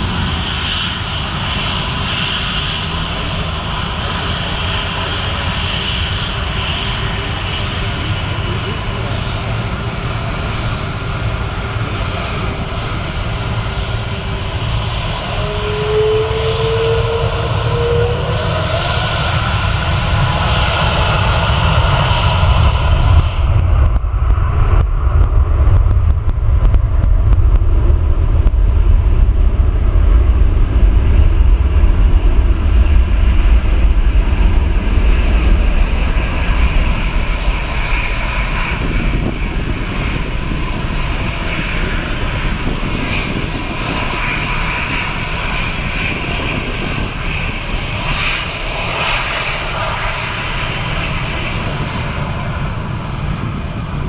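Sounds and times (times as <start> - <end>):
jet engine rumble and whine: 0.0 - 54.0.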